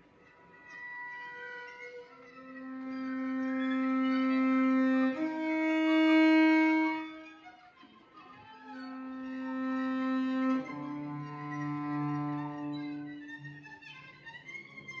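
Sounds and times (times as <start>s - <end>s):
viola and cello bowed notes: 0.4s - 15.0s.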